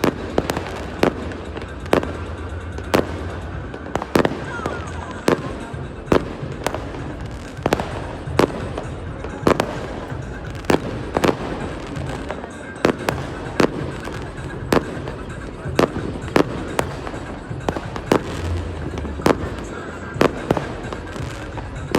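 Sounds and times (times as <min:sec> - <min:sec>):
fireworks bangs: 0:00.0 - 0:21.9
fireworks crackle: 0:00.0 - 0:21.9.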